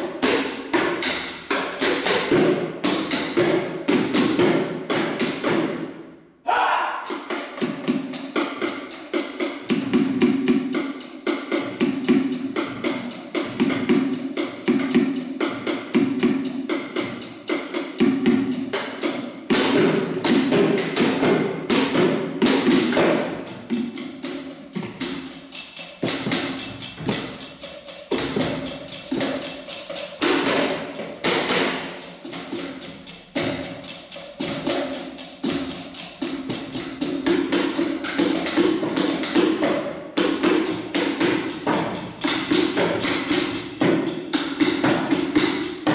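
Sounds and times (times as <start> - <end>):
drumsticks beating plastic buckets: 0.0 - 45.9.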